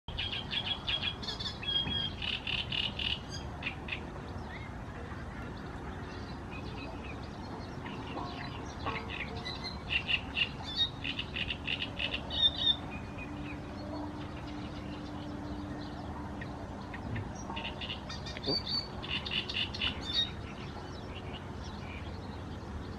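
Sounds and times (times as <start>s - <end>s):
warbler singing: 0.1s - 22.9s.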